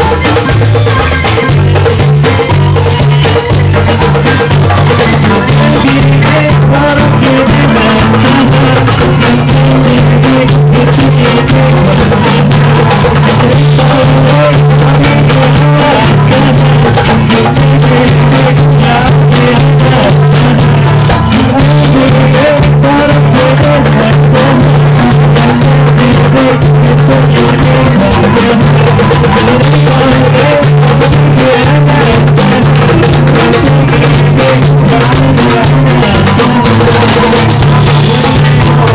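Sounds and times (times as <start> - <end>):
loud music with drums: 0.0 - 38.9
shaker rattling percussion: 0.0 - 38.9.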